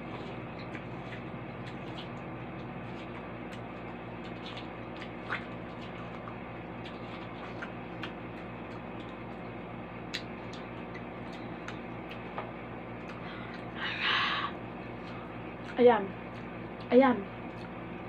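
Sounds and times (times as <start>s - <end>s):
low hum: 0.0s - 18.0s
watermelon being bitten and chewed: 0.0s - 18.0s.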